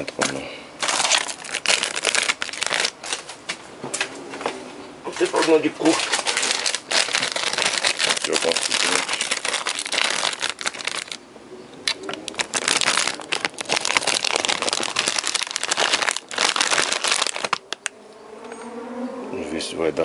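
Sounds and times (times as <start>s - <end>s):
crackling and rustling: 0.0s - 11.2s, 11.8s - 17.9s.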